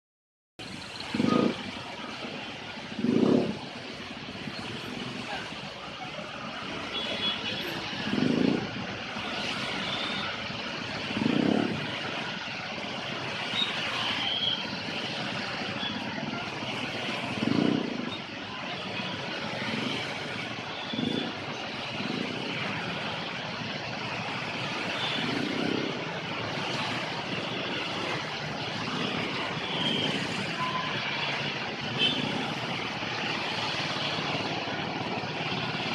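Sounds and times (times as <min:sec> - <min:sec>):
heavy road-works machinery running: 0:00.6 - 0:35.9.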